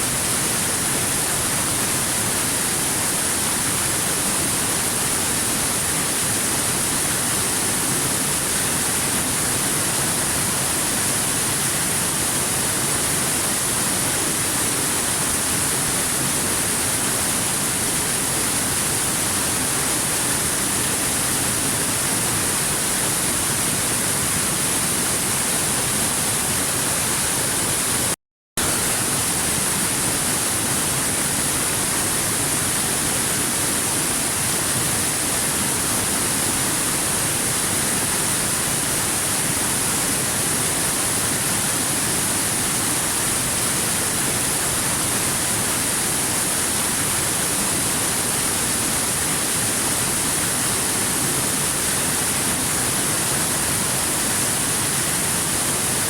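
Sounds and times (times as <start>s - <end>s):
waterfall rushing: 7.4s - 56.0s.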